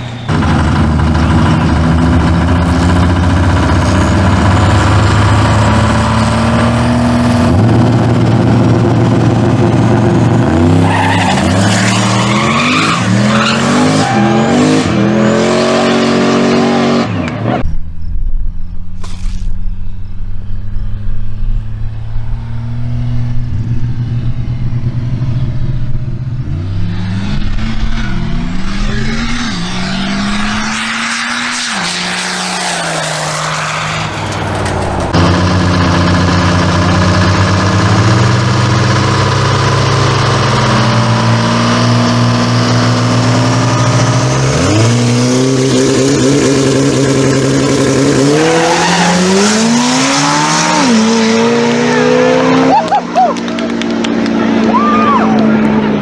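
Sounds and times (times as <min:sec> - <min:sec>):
engines accelerating through gears: 0:00.0 - 0:17.8, 0:19.0 - 0:56.0
engines revving steadily: 0:00.0 - 0:18.3, 0:19.0 - 0:56.0
diesel engines at full throttle: 0:00.0 - 0:56.0.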